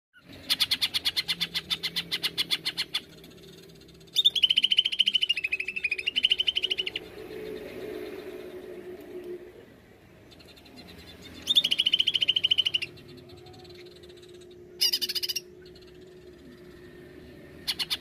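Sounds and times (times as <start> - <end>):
bird singing rapid notes: 0.2 - 9.2, 10.1 - 18.0
faint low hum: 0.2 - 18.0.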